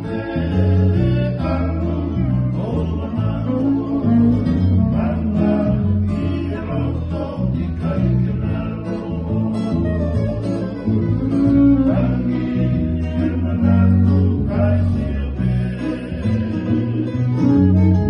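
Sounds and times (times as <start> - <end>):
men singing: 0.0 - 18.0
string band playing: 1.6 - 15.3, 16.6 - 18.0.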